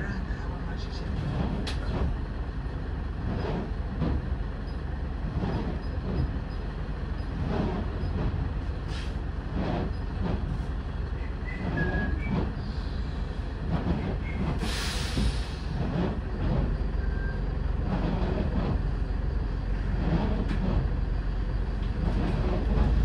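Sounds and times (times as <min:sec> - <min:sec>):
bus engine and road drone: 0:00.0 - 0:23.0
rattles and knocks from bus body: 0:01.1 - 0:02.3, 0:03.1 - 0:21.0, 0:21.6 - 0:23.0.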